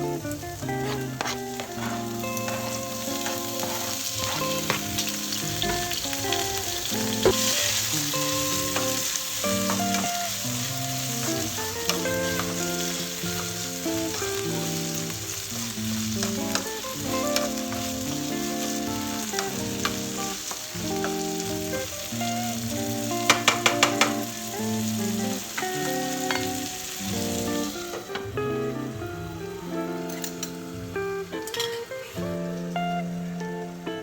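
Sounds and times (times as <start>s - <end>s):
background music with held notes: 0.0s - 34.0s
food sizzling in a frying pan: 0.0s - 34.0s.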